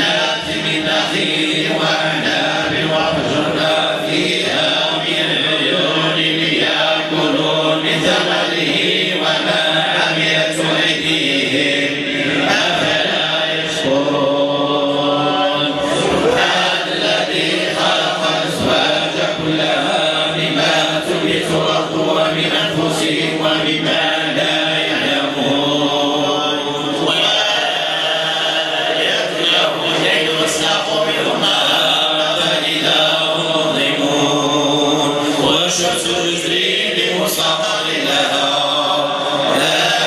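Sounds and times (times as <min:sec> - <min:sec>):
men chanting together: 0:00.0 - 0:40.0.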